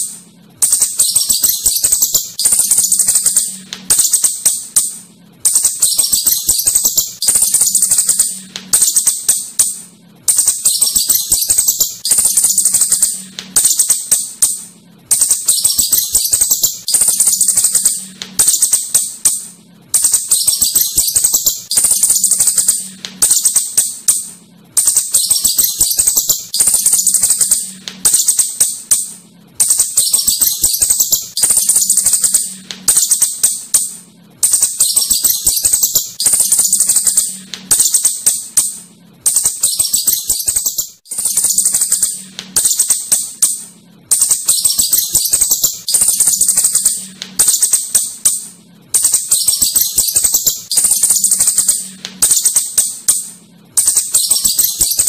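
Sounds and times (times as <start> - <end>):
shrew chittering: 0.0 - 55.0.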